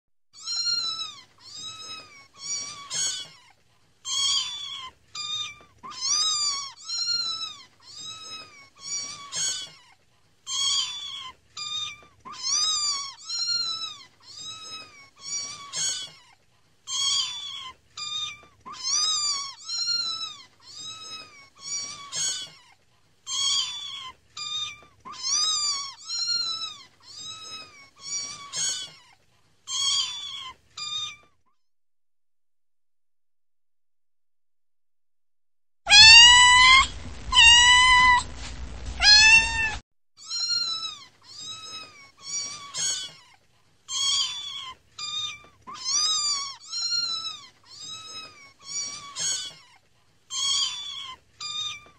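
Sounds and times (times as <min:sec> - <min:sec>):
kittens mewing: 0:00.4 - 0:03.5, 0:04.1 - 0:16.3, 0:16.9 - 0:31.3, 0:35.9 - 0:51.9.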